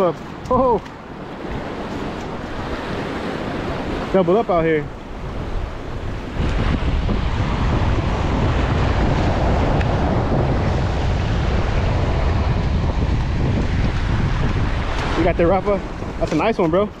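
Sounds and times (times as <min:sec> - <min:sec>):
waves breaking against rocks: 0:00.0 - 0:17.0
wind buffeting microphone: 0:00.0 - 0:17.0.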